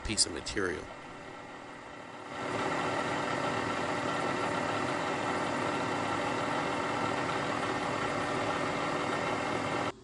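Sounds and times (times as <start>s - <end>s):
milling machine motor whine: 0.0s - 10.0s.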